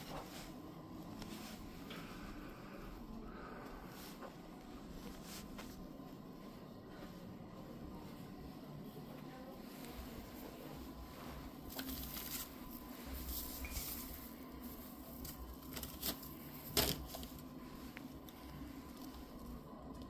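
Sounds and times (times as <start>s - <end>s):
soft rustling of plush toys: 0.0s - 20.0s.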